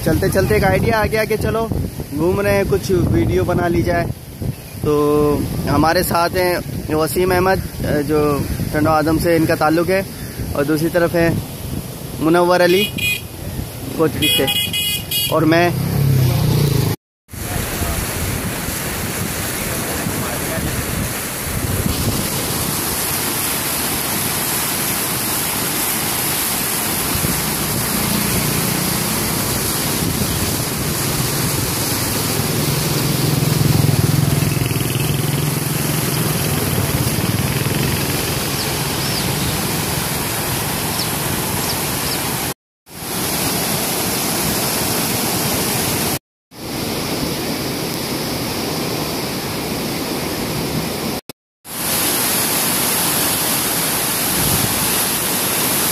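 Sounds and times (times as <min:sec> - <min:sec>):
rushing churning water: 0:00.0 - 0:16.7, 0:17.3 - 0:55.9.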